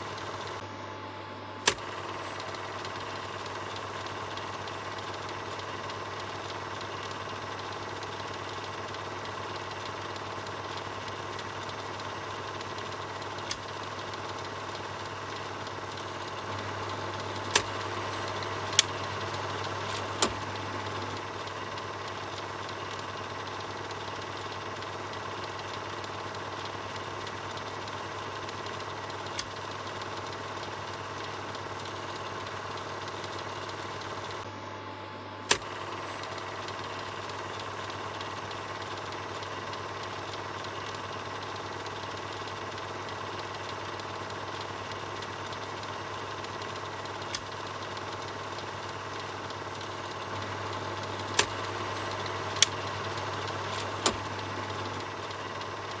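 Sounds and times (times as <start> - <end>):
film projector whirring: 0.0 - 56.0
sharp clicks: 1.6 - 34.5, 35.4 - 56.0.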